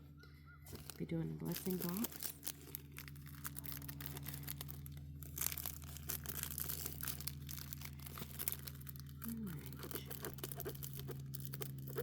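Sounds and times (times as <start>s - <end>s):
steady low hum: 0.0s - 12.0s
packaging crinkling and tearing: 0.7s - 12.0s.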